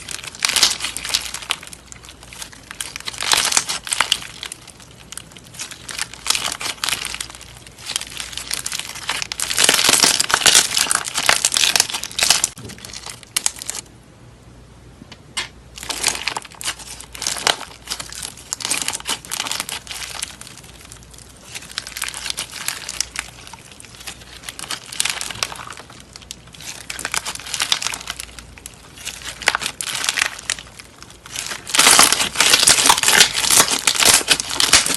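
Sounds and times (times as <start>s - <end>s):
slime crackling and popping: 0.0s - 13.9s, 15.7s - 34.9s.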